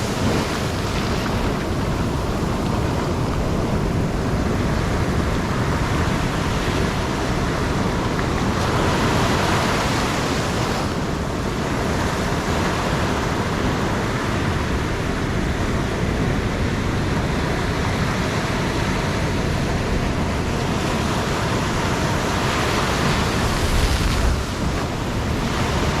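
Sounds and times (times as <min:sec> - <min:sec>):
surf breaking on a beach: 0:00.0 - 0:26.0
wind buffeting microphone: 0:00.0 - 0:26.0.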